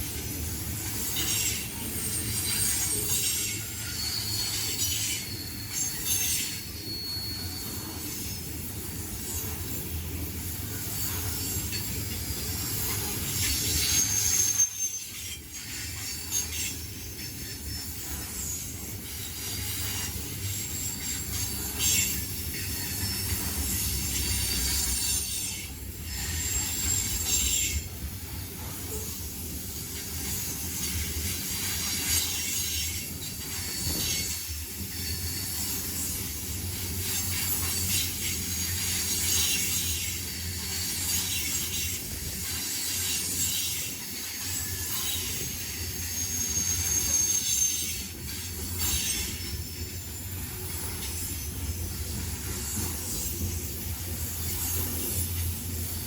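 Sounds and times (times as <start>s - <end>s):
train cars rumbling on rails: 0.0s - 56.0s
train wheels squealing: 0.0s - 56.0s.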